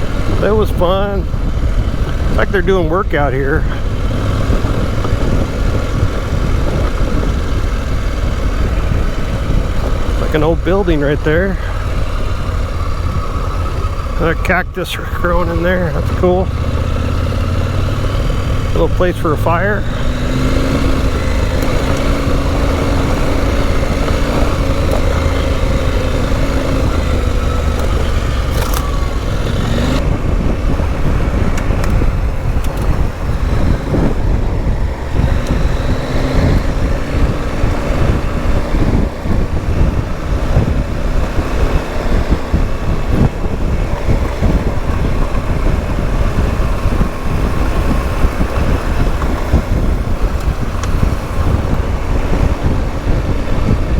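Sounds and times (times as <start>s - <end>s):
motorcycle engine revving: 0.0s - 53.9s
wind on microphone: 0.0s - 53.9s.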